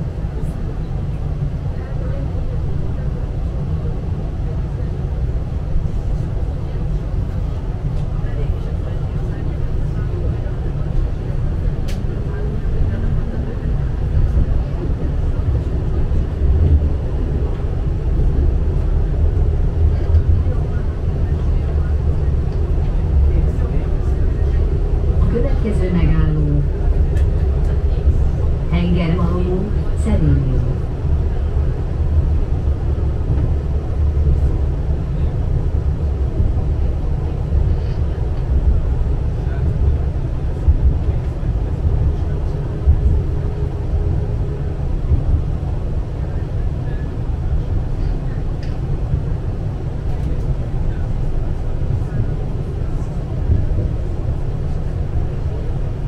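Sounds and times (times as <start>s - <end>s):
tram rumbling: 0.0s - 56.0s.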